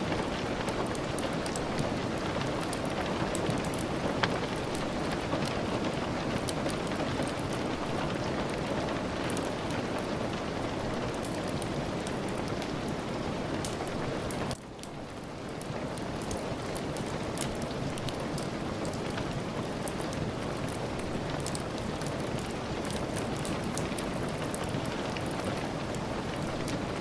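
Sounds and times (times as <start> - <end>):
steady rain: 0.0 - 27.0
wood fire crackling: 0.0 - 27.0.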